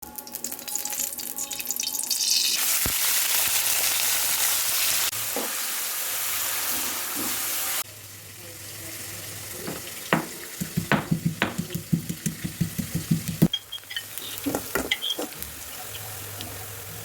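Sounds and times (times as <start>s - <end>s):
food sizzling in hot oil: 0.1s - 17.0s.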